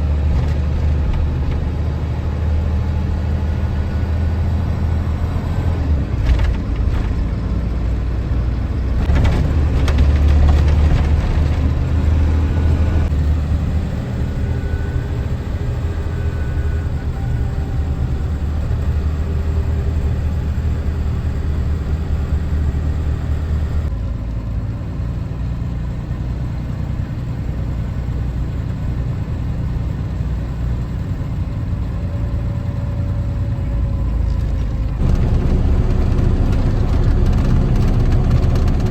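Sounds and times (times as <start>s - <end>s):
road rumble: 0.0s - 38.9s
truck engine: 0.0s - 38.9s.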